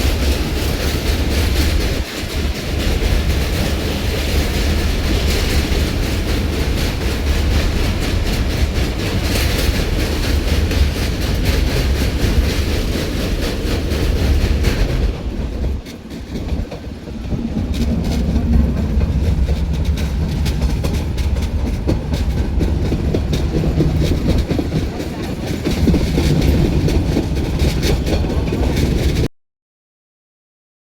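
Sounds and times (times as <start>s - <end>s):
rail clicks: 0.0s - 29.3s
train wheels rumbling on rails: 0.0s - 29.3s.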